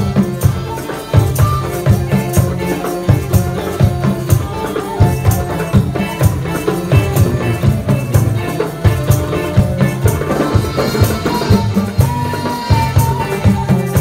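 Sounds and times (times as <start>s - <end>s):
instrumental ensemble playing: 0.0s - 14.0s.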